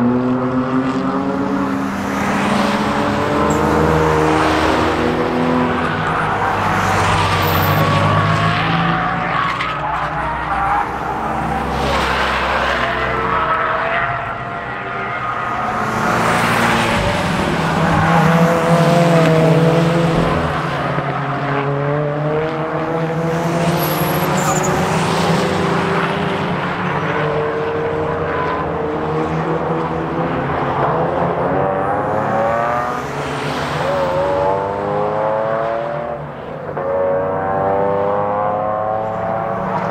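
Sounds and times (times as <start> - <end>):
sports car engines revving past: 0.0 - 39.9.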